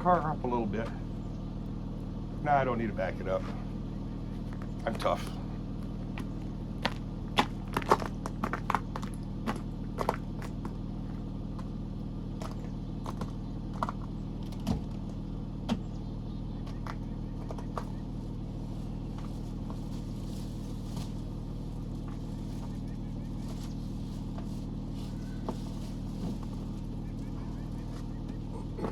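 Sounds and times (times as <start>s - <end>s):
vehicle engine idling: 0.0s - 28.9s.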